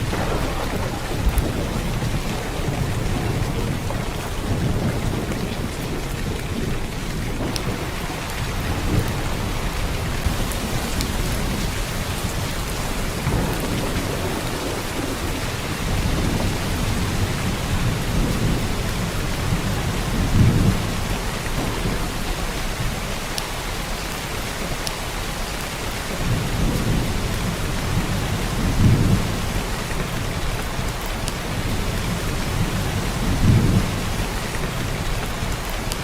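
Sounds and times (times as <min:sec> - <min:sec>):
heavy rain hissing: 0:00.0 - 0:36.0.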